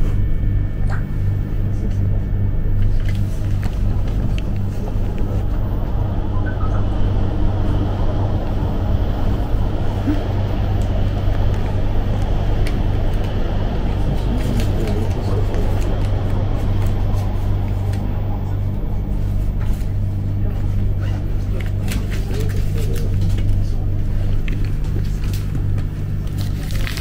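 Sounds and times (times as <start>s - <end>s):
constant hum: 0.0s - 27.0s
train rumbling: 0.0s - 27.0s.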